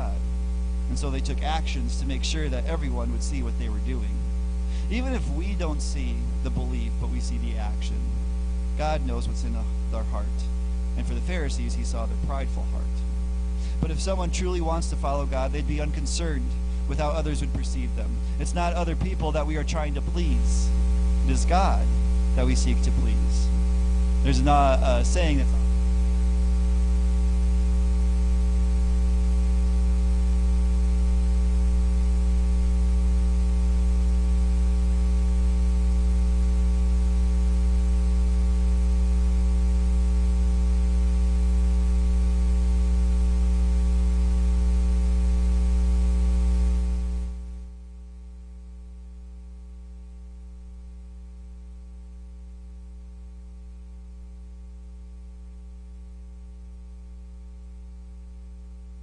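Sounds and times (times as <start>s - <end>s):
electrical mains hum with hiss: 0.0s - 59.0s.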